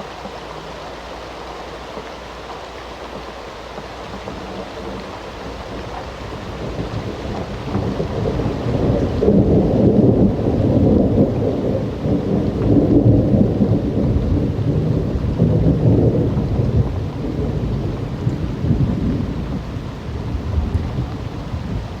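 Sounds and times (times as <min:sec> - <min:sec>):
steady rain: 0:00.0 - 0:22.0
rolling thunder: 0:04.1 - 0:22.0.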